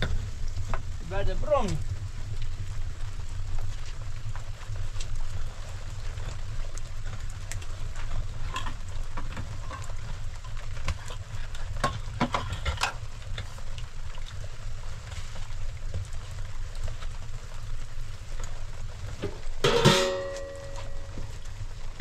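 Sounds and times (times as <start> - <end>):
low steady rumble: 0.0 - 22.0
rain hissing: 0.0 - 22.0
raindrops tapping: 0.0 - 22.0.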